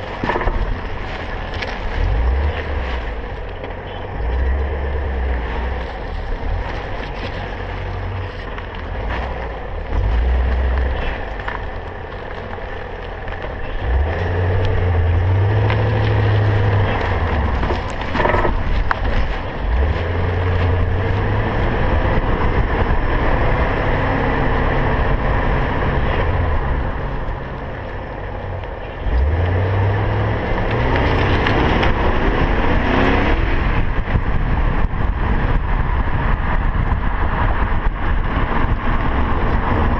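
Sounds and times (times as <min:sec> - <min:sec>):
car road noise: 0:00.0 - 0:39.9
low rumbling: 0:00.0 - 0:39.9.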